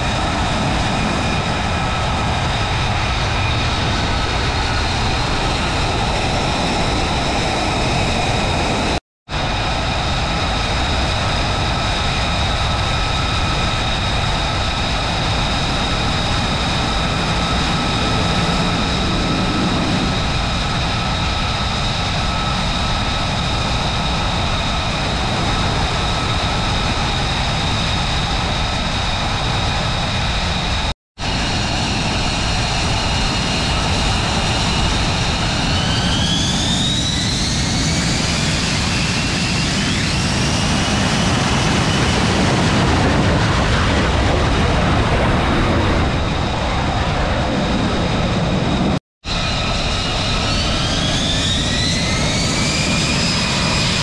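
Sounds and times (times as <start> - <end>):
jet engines idling with whine: 0.0 - 54.0.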